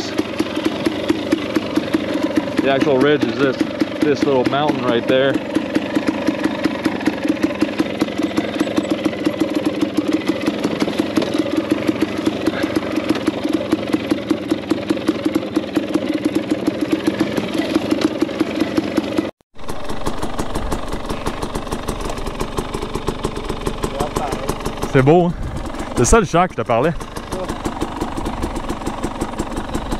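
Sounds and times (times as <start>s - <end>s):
dirt bike engine at low revs: 0.0s - 29.9s
dirt bike engine idling: 0.0s - 29.9s.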